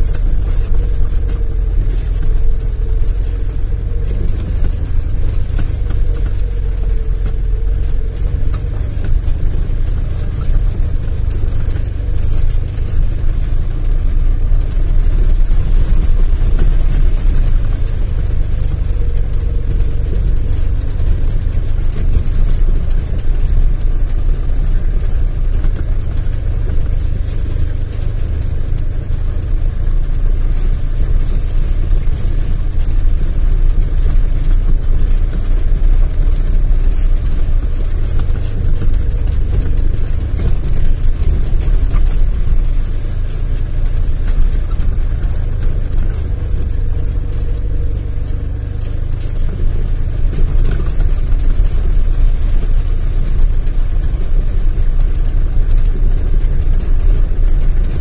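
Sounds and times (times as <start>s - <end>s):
dense constant crackle: 0.0s - 58.0s
engine and tyres rumbling: 0.0s - 58.0s.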